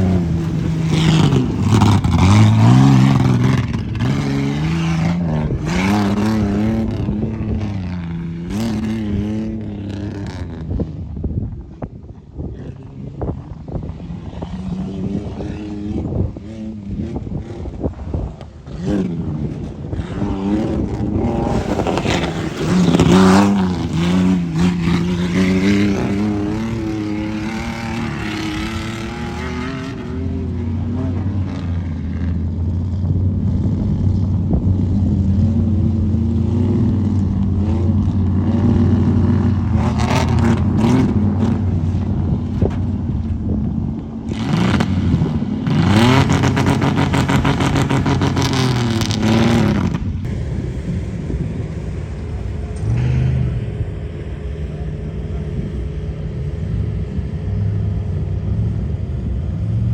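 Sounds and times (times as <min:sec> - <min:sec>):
truck engine revving: 0:00.0 - 0:11.0, 0:14.2 - 0:59.9.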